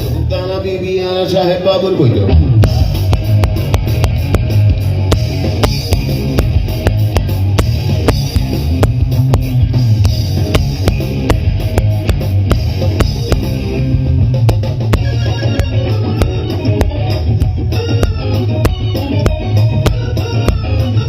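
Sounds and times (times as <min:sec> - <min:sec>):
instrumental rock music: 0:00.0 - 0:21.0.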